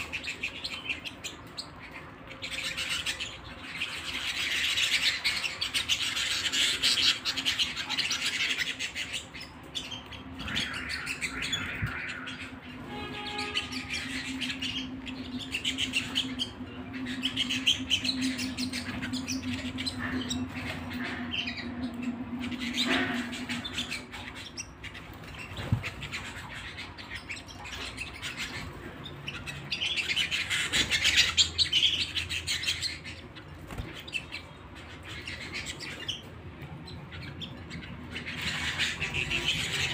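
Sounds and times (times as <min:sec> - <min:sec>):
canary singing trills: 0:00.0 - 0:39.9
steady low hum: 0:00.0 - 0:39.9.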